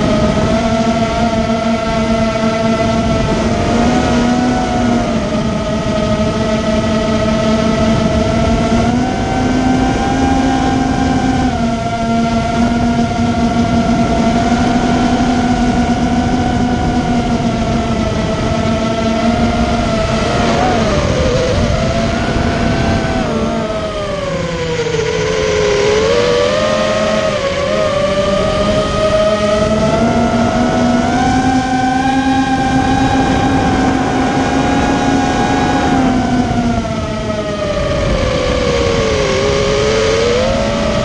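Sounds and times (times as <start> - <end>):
drone motors whining: 0.0 - 41.0.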